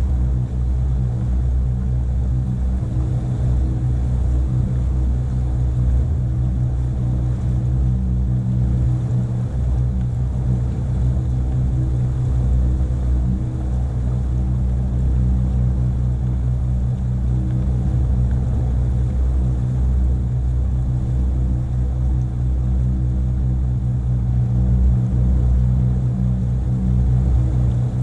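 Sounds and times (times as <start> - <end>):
motorboat engine rumbling: 0.0 - 28.0.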